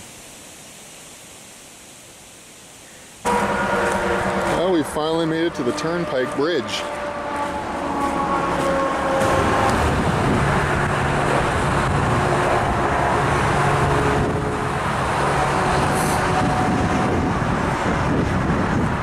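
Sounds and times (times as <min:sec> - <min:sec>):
highway traffic: 0:03.2 - 0:19.0.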